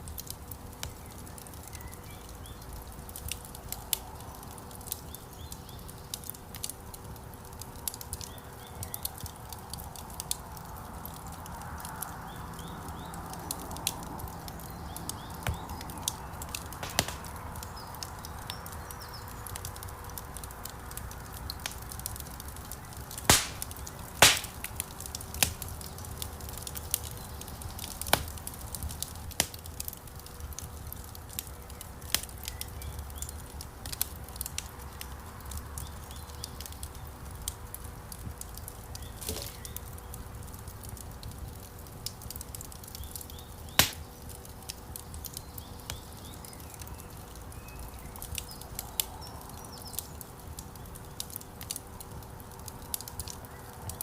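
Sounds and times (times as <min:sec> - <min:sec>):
loud snaps of burning wood: 0:00.0 - 0:54.0
wood fire crackling: 0:00.0 - 0:54.0.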